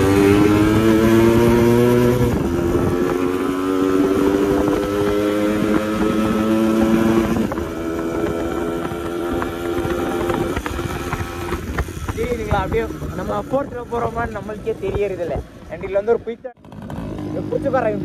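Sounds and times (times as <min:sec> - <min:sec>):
two-stroke motorcycle engine: 0:00.0 - 0:18.0.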